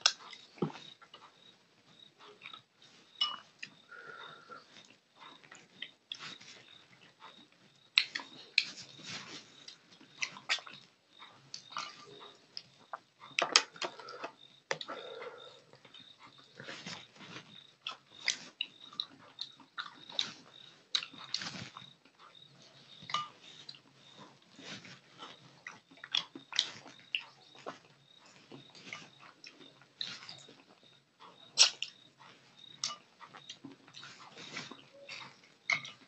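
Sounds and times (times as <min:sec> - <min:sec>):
wet chewing and lip smacking: 0:00.0 - 0:36.0.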